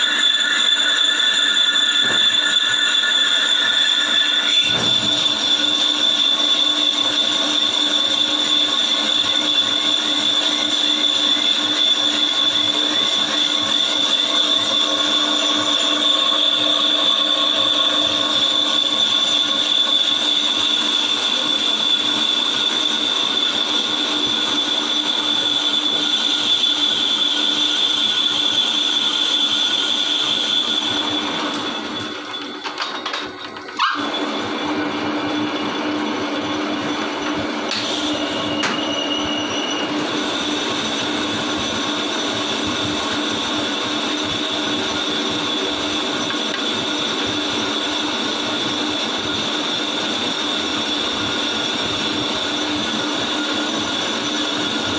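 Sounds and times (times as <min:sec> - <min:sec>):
high squealing ring of cutting tool: 0:00.0 - 0:34.6, 0:35.2 - 0:54.9
lathe running: 0:00.0 - 0:54.9.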